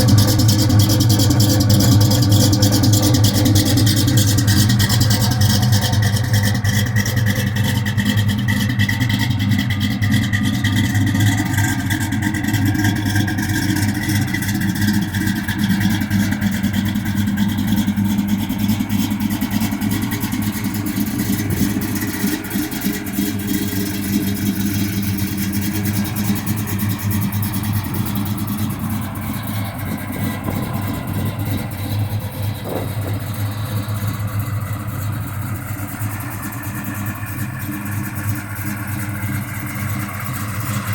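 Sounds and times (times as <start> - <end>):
engine idling rough: 0.0 - 40.9.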